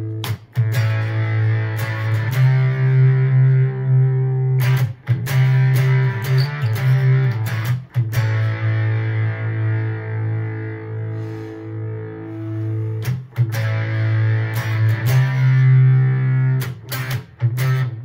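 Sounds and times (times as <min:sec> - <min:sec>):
fuzzy electric guitar: 0:00.0 - 0:18.0.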